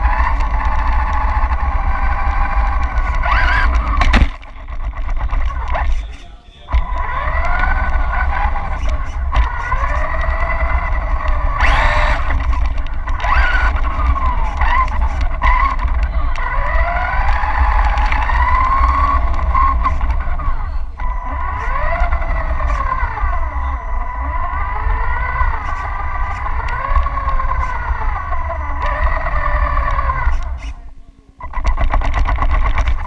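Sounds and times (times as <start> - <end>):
toy car rolling on tile: 0.0 - 6.2, 6.8 - 30.8, 31.4 - 33.0
toy car motor whining: 0.0 - 33.0.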